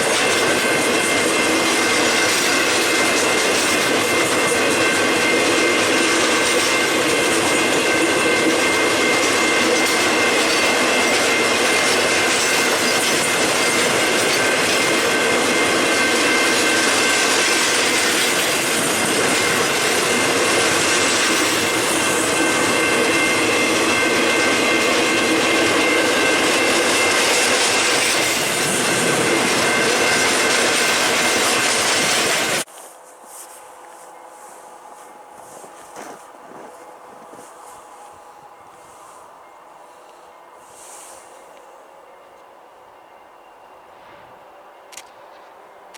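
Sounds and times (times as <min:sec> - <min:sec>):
freight train wheels on rails: 0:00.0 - 0:45.9.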